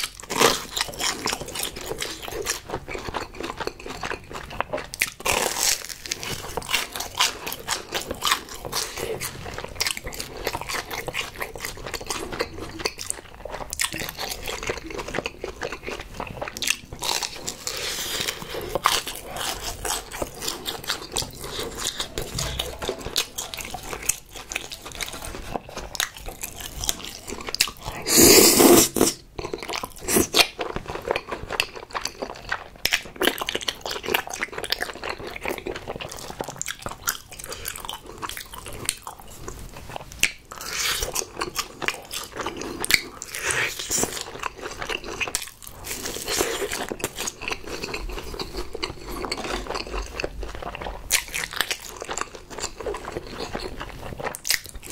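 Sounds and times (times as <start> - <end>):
crunching and chewing food: 0.0 - 54.9.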